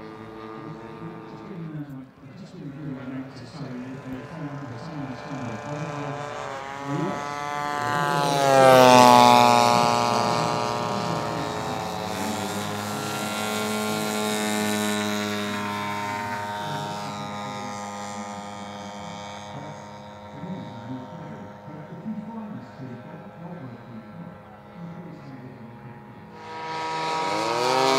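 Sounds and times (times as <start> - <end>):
model airplane engine running: 0.0 - 27.9.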